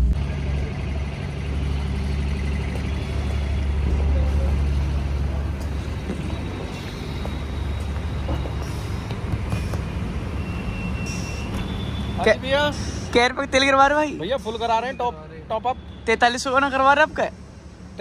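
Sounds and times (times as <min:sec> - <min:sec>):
vehicle engine idling: 0:00.0 - 0:15.7.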